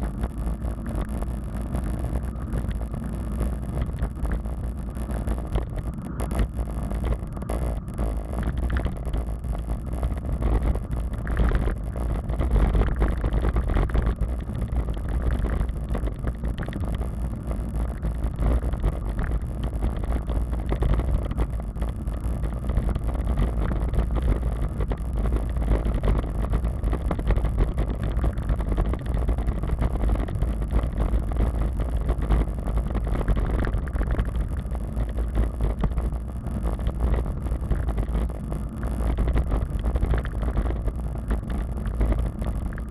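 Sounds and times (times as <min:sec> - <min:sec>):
bicycle tyre and road noise: 0:00.0 - 0:42.9.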